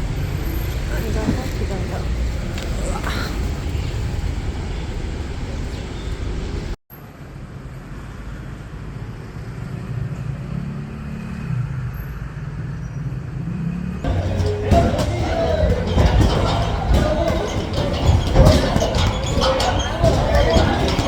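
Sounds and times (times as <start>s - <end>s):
street traffic rumble: 0.0s - 11.1s, 14.0s - 21.0s.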